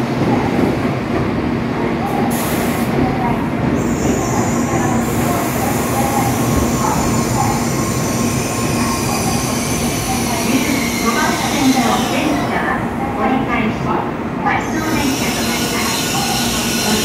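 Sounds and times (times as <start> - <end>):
steady train hum: 0.0 - 17.0.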